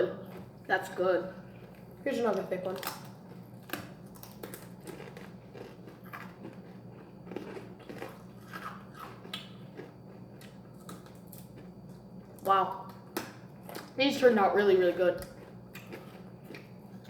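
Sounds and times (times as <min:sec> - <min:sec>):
people chewing potato chips: 0:00.2 - 0:14.0, 0:15.2 - 0:17.0.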